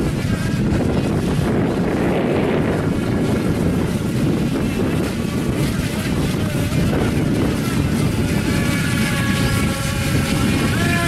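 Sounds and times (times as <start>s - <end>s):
small electric motors whining: 0.0s - 11.0s
wind buffeting microphone: 0.0s - 11.0s.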